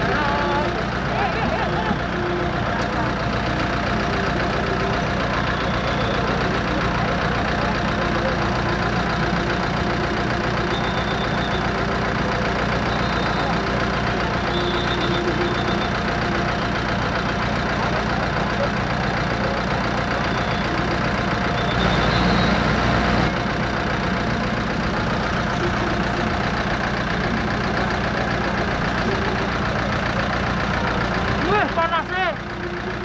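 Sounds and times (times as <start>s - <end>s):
bus engine idling: 0.0s - 33.0s.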